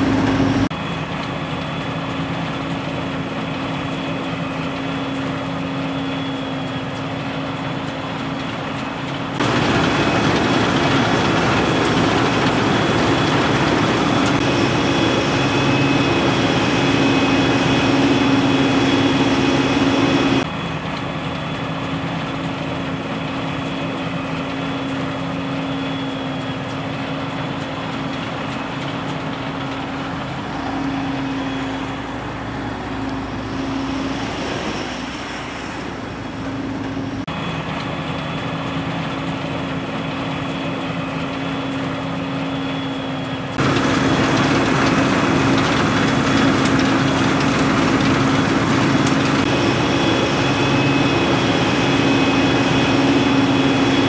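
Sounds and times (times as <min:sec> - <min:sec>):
forage harvester running: 0:00.0 - 0:54.0.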